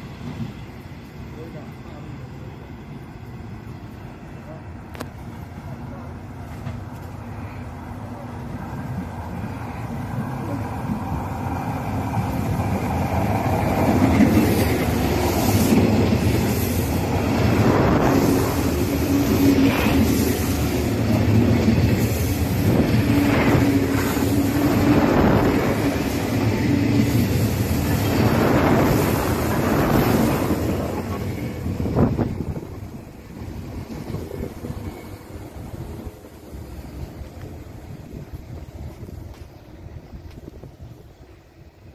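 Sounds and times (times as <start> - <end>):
electric train running on rails: 0.0 - 41.9.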